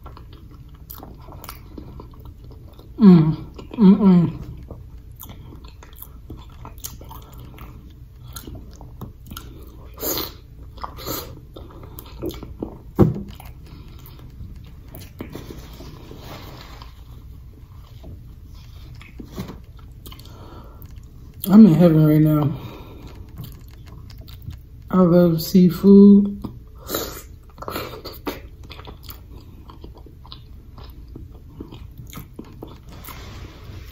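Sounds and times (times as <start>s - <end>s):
person chewing and lip smacking: 0.0s - 15.7s, 16.9s - 24.9s, 26.3s - 33.1s.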